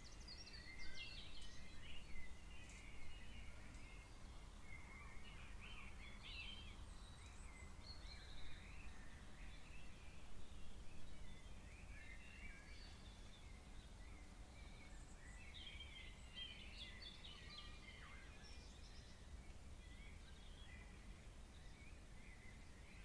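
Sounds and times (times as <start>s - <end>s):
steady low background noise: 0.0s - 23.0s.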